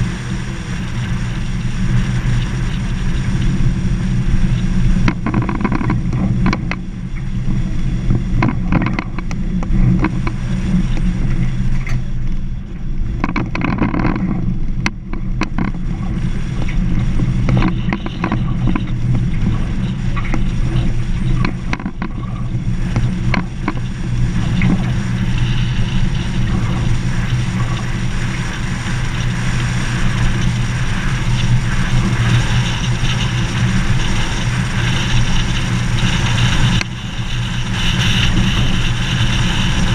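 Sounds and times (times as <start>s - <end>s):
vehicle engine drone: 0.0s - 39.9s
rattles and knocks on gravel: 4.5s - 7.4s, 8.0s - 12.4s, 13.0s - 39.9s.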